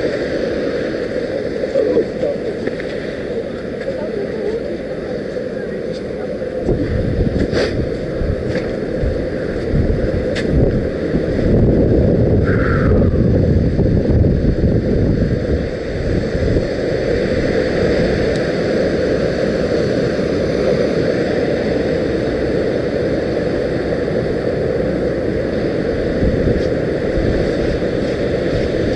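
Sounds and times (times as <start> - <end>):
ocean surf: 0.0 - 28.9
wind buffeting microphone: 0.0 - 28.9.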